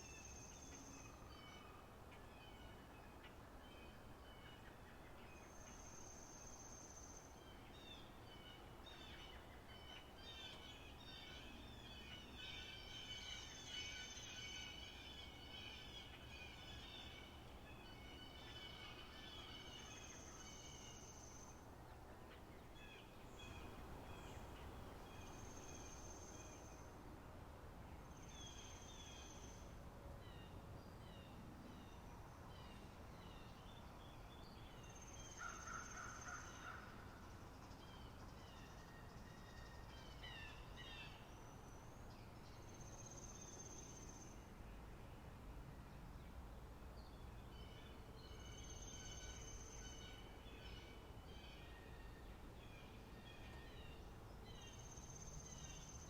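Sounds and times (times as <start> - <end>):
songbirds chirping and trilling: 0.0 - 27.0, 27.9 - 56.0.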